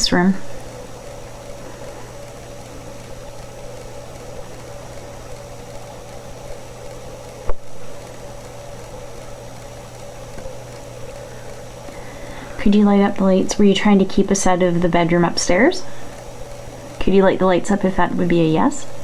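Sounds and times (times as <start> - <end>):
background hiss: 0.0 - 19.0
low electrical hum: 0.0 - 19.0.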